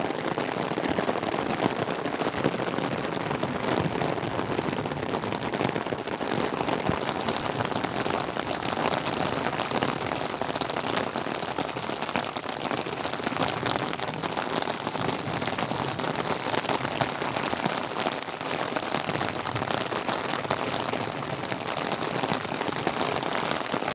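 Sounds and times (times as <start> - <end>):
rain falling on trees: 0.0 - 23.9.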